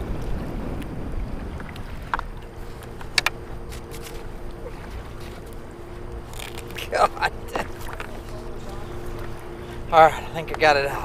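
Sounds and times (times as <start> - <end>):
wind buffeting microphone: 0.0 - 11.0
faint two-note hum: 0.8 - 11.0.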